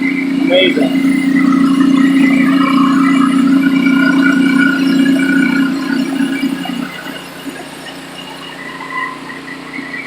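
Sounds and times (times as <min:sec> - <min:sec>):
pressure washer hum and whine: 0:00.0 - 0:10.0.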